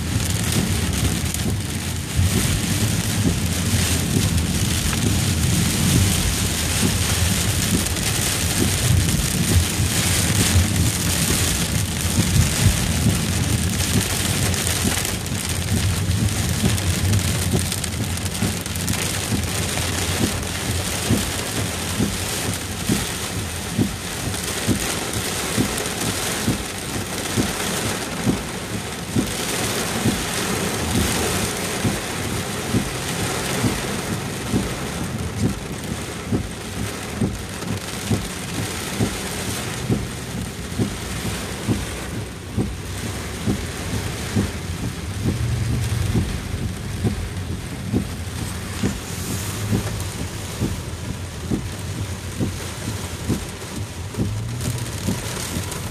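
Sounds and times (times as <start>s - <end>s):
car rumbling on wet road: 0.0s - 55.9s
heavy rain on car roof: 0.0s - 55.9s.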